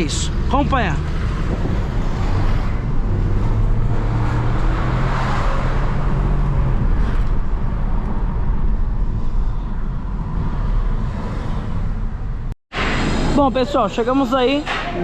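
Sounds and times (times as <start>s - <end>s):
car engine hum: 0.0s - 12.6s
road noise: 0.0s - 15.0s.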